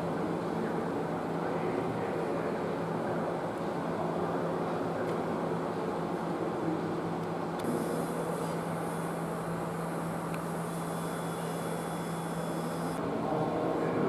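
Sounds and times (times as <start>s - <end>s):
ventilation system hum: 0.0s - 14.0s.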